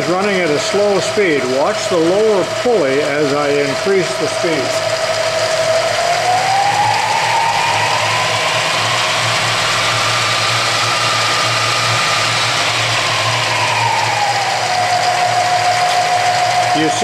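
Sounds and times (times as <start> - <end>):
milling machine drive humming: 0.0 - 17.0
rising and falling machine whine: 0.0 - 17.0.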